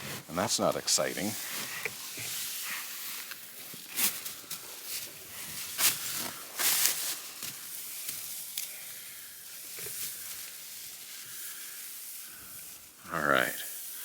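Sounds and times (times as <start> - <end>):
hay and twine rustling: 0.0 - 14.0.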